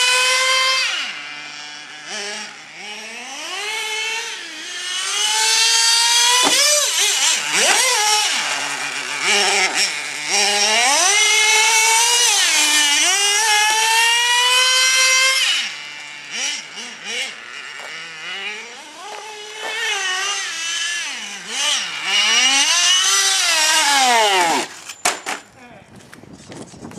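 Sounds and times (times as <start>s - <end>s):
small engine revving: 0.0s - 25.0s.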